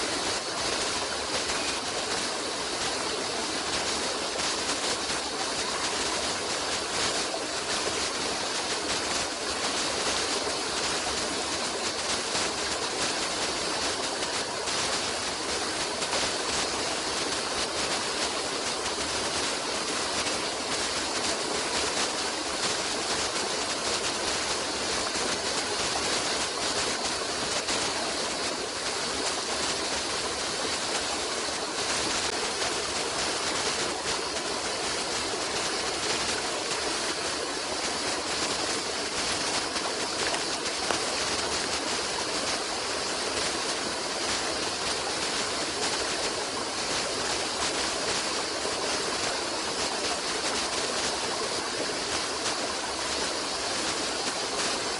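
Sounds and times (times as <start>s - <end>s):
water running steadily: 0.0s - 54.9s.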